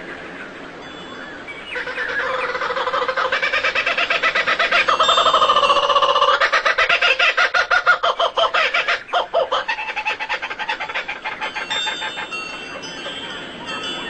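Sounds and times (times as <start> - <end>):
bird clucking call: 1.7 - 14.0.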